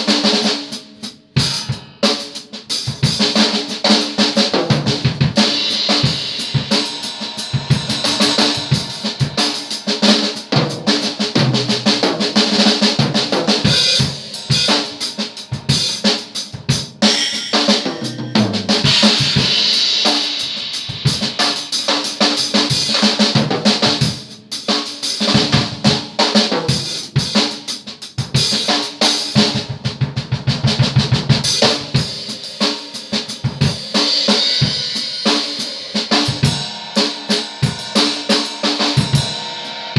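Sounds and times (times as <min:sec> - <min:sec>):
acoustic drum kit playing: 0:00.0 - 0:39.9.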